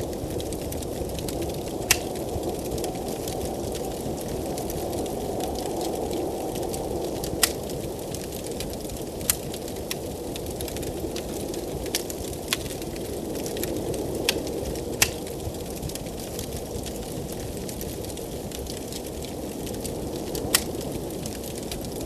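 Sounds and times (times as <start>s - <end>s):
blizzard wind rushing: 0.0s - 22.0s
wood fire crackling and popping: 0.0s - 22.0s.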